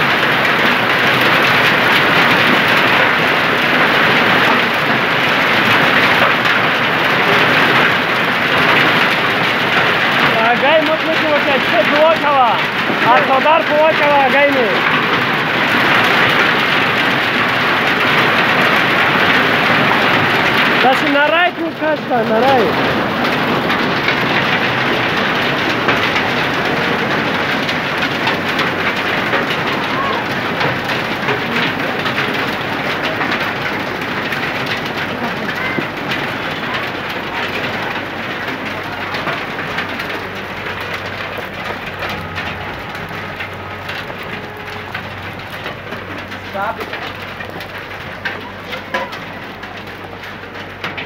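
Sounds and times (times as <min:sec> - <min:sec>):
hail and rain falling: 0:00.0 - 0:51.0.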